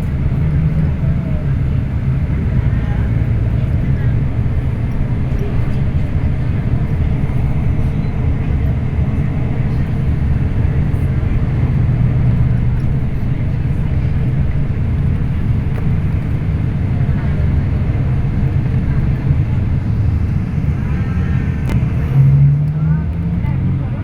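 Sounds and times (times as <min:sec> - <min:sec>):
bus engine droning: 0:00.0 - 0:24.0
road noise: 0:00.0 - 0:24.0.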